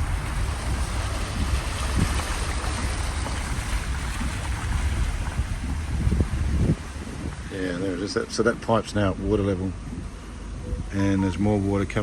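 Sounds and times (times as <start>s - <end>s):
floodwater rushing: 0.0s - 10.6s
wind buffeting microphone: 0.0s - 10.9s.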